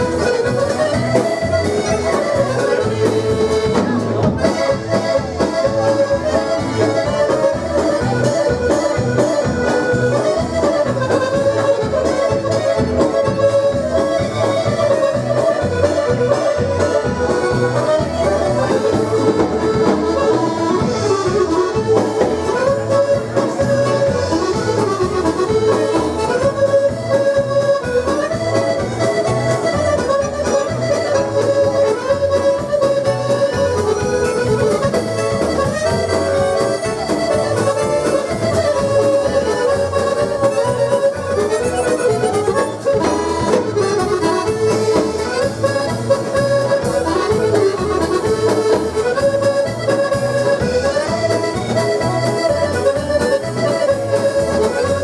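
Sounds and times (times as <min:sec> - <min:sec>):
button accordions playing dance tune: 0:00.0 - 0:55.0.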